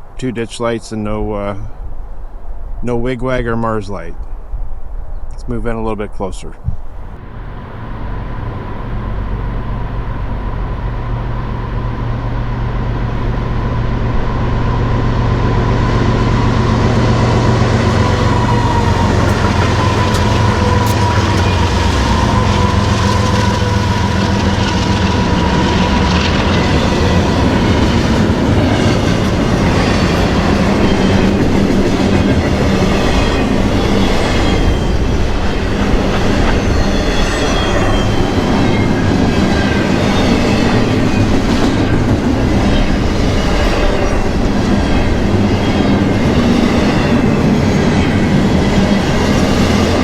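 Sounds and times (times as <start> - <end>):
diesel locomotive engines: 6.5 - 50.0
high wheel squeal: 7.1 - 50.0
train wheels clattering on rails: 7.4 - 50.0.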